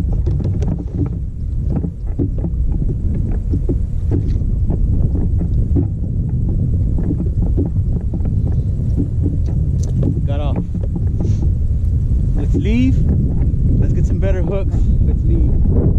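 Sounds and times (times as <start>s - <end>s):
short knocks: 0.0s - 11.6s, 12.3s - 15.9s
water splashing against kayak hull: 0.0s - 15.9s
wind rumble on microphone: 0.0s - 15.9s.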